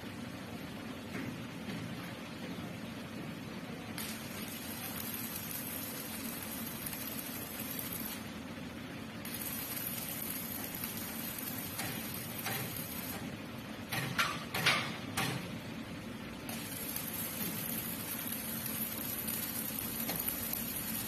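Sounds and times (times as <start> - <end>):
arc welding crackling sizzle: 3.8 - 21.0.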